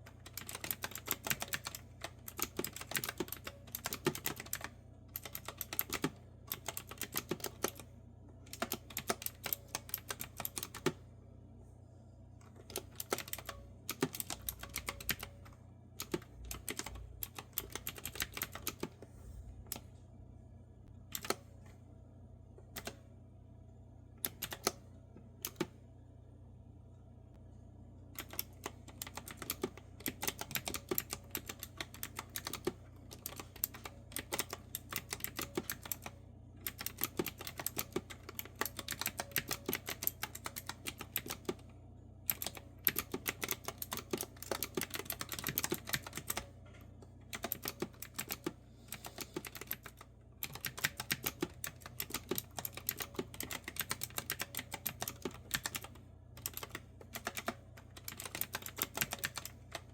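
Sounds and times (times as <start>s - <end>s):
mechanical keyboard typing: 0.0s - 7.9s, 8.5s - 11.0s, 12.6s - 19.0s, 21.1s - 21.4s, 22.8s - 23.0s, 24.2s - 24.8s, 25.4s - 25.8s, 28.2s - 41.6s, 42.3s - 46.5s, 47.2s - 59.9s.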